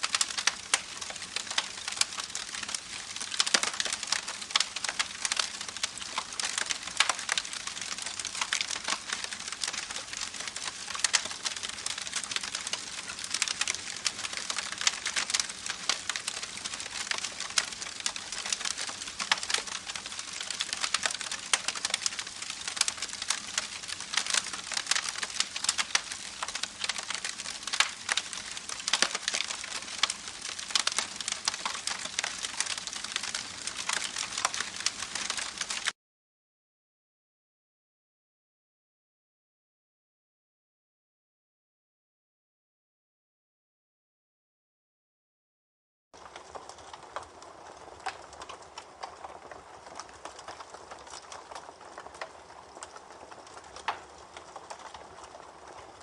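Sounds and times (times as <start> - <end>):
campfire crackling and popping: 0.0 - 36.0, 46.2 - 56.0.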